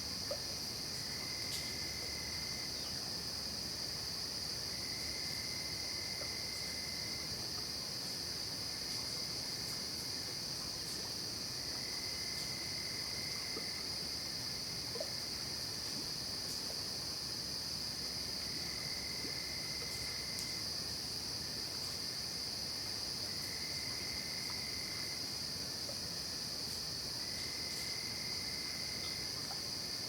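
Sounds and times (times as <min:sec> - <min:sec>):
fainter lower insect trill: 0:00.0 - 0:30.0.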